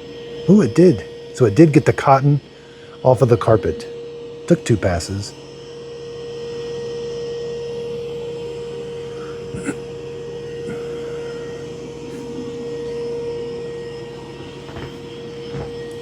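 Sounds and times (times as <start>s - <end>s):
robot vacuum suction whine: 0.0s - 16.0s.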